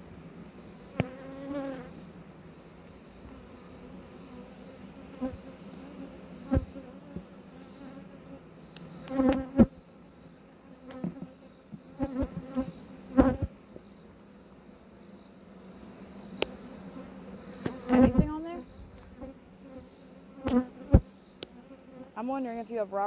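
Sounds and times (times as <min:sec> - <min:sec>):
bees buzzing past microphone: 0:00.0 - 0:22.8
bees humming around hive: 0:00.0 - 0:23.0.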